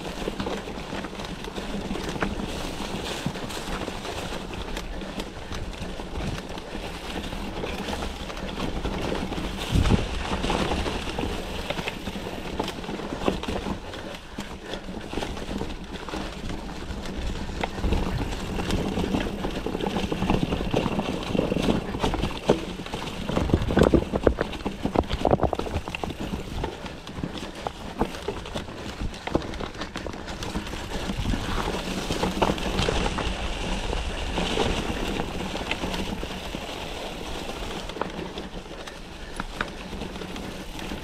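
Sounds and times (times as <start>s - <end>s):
bike rattling: 0.0s - 41.0s
bike tyres rumbling on dirt: 0.0s - 41.0s
hard jolts of bike: 0.0s - 41.0s.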